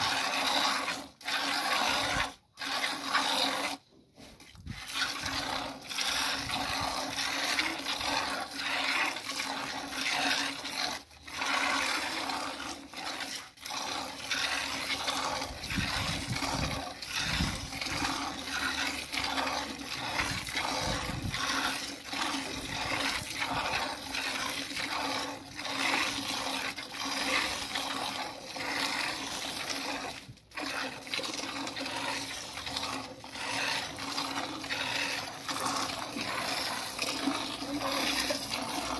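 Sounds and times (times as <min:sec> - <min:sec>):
milk squirting into bucket: 0:00.0 - 0:38.9.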